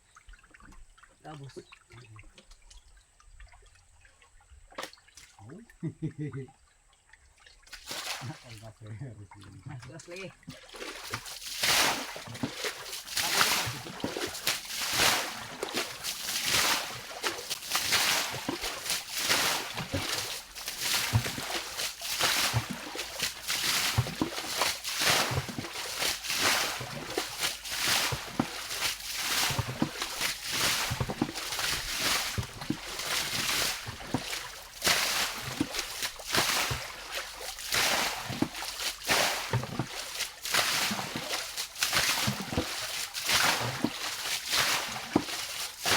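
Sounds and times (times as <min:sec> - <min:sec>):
shallow water splashing: 0:06.5 - 0:45.9.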